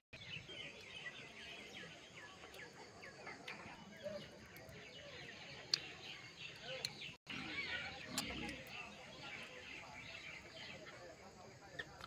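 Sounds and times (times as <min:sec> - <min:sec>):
birds chirping faintly: 0:00.1 - 0:12.0
outdoor background noise: 0:00.1 - 0:12.0.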